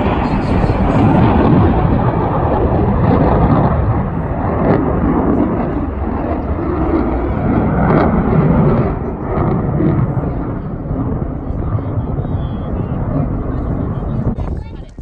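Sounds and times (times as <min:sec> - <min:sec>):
plane flying by: 0:00.0 - 0:15.0.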